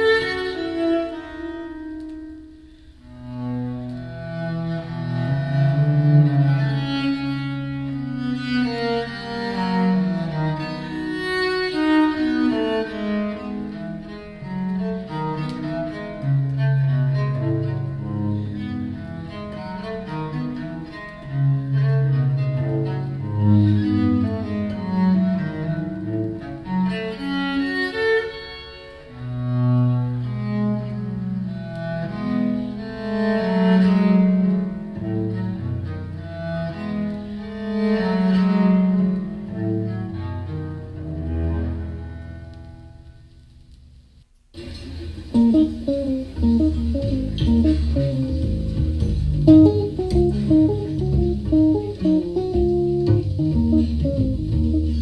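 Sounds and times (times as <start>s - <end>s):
bowed low-string melody: 0.0s - 43.2s, 44.6s - 55.0s.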